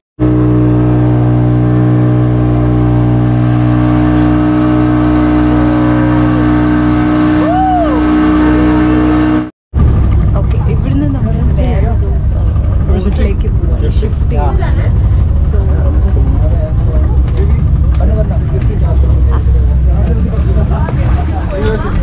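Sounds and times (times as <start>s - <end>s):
outboard motor droning: 0.2s - 22.0s.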